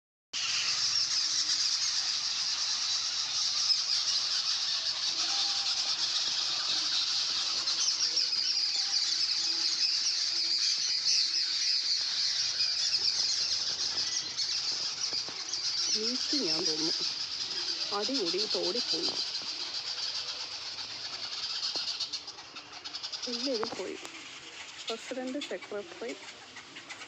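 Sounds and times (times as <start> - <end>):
flock of birds chattering: 0.4 - 27.0.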